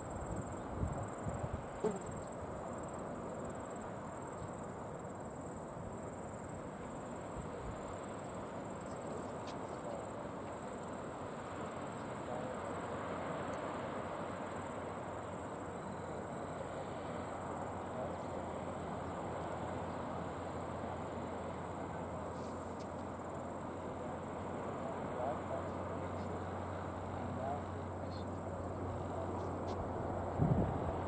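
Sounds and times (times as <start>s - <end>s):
continuous high buzz: 0.0s - 31.0s
outdoor hiss: 0.0s - 31.0s.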